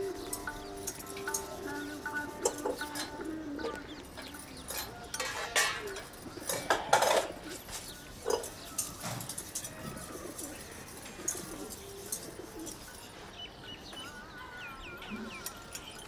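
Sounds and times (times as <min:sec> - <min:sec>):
pigeons cooing: 0:00.0 - 0:13.9
metal pots clinking: 0:00.0 - 0:14.0.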